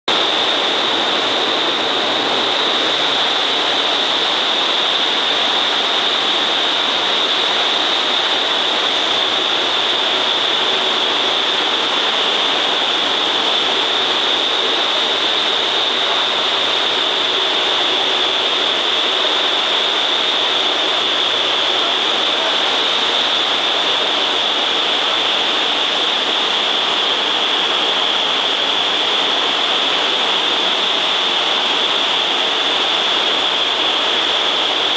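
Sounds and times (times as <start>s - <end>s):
loud rush of air: 0.1s - 34.9s
steady high whine: 0.1s - 34.9s.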